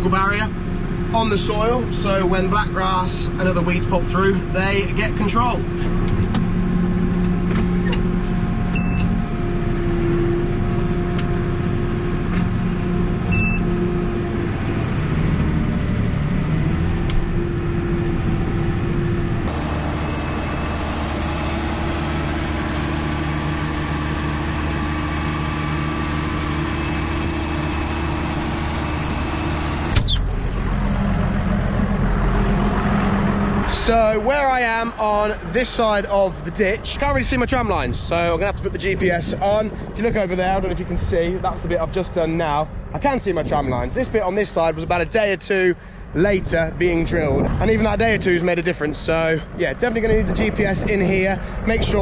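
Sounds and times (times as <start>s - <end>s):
tractor engine droning: 0.0s - 52.0s.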